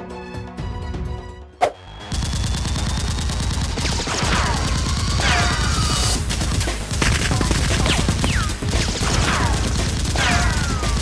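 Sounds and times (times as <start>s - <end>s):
automatic gunfire: 2.1s - 11.0s.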